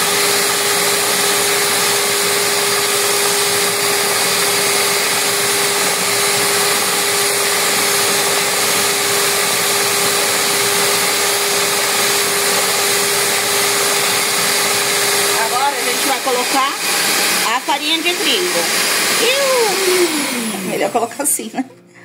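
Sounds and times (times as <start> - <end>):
mixer motor whine: 0.0 - 21.4
stand mixer beaters whirring: 0.0 - 21.4.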